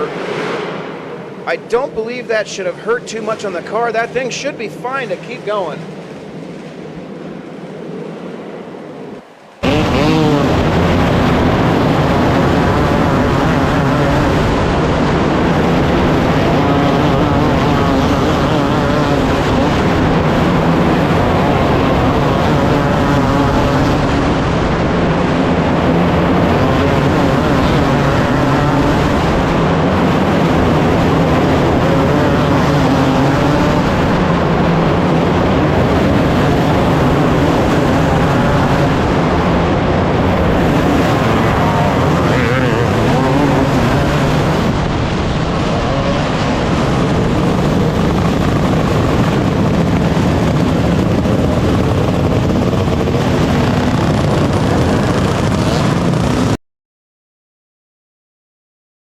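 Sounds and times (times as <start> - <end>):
race car engines: 0.0 - 56.6.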